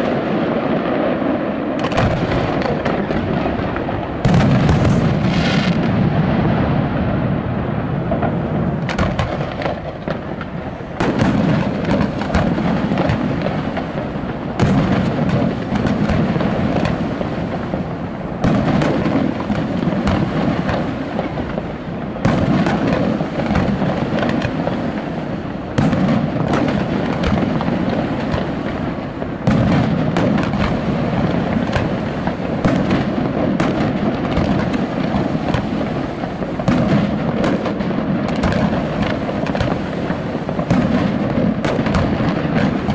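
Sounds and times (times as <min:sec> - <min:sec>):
firework booms: 0:00.0 - 0:42.9
firework crackling: 0:00.0 - 0:42.9.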